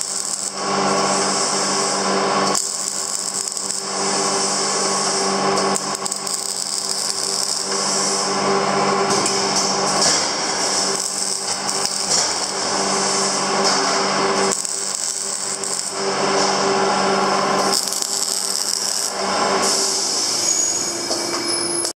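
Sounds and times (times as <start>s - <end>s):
steady low hum: 0.0s - 20.2s
welding arc crackling: 0.0s - 20.9s.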